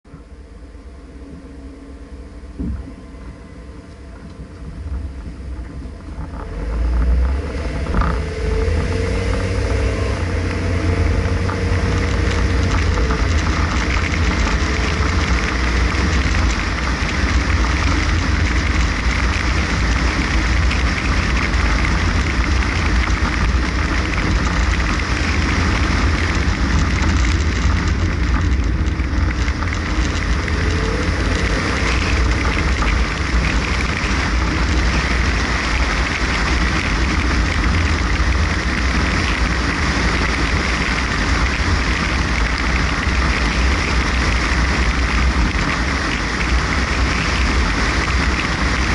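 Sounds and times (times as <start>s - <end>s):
car engine and tyre noise: 0.0s - 48.9s.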